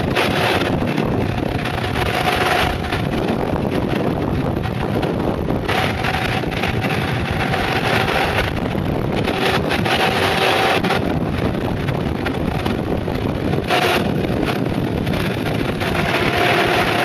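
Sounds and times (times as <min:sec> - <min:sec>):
tyres rolling on asphalt: 0:00.0 - 0:17.0
wind rushing over microphone: 0:00.0 - 0:17.0.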